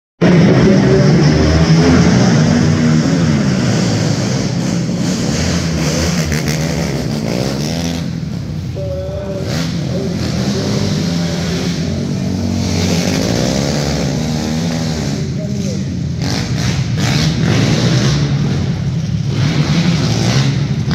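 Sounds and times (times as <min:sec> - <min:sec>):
quad engines revving: 0:00.2 - 0:20.9.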